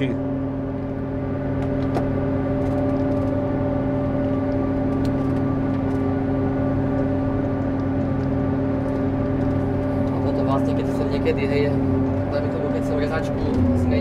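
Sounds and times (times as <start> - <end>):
harvester machine drone: 0.0 - 14.0.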